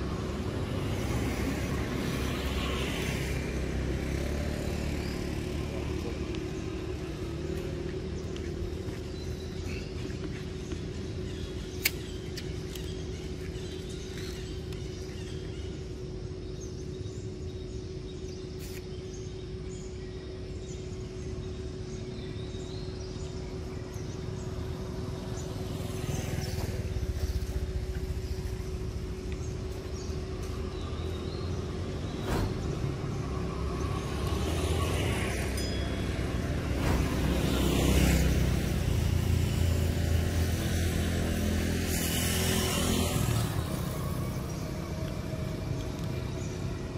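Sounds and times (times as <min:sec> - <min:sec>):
motor vehicle passing: 0:00.0 - 0:15.8, 0:24.0 - 0:46.9.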